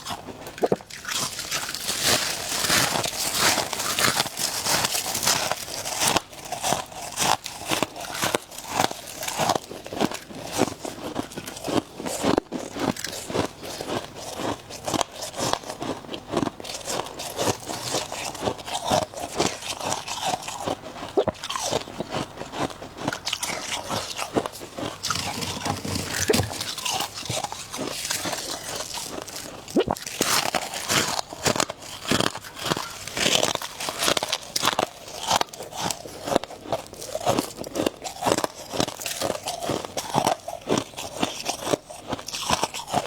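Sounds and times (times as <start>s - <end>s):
ice crunching while chewed: 0.0s - 43.0s.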